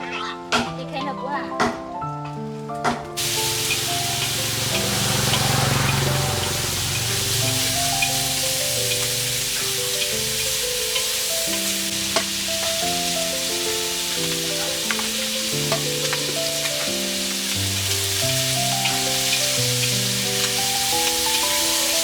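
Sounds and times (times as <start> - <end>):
slow instrumental melody: 0.0 - 22.0
food sizzling in a pan: 3.2 - 22.0.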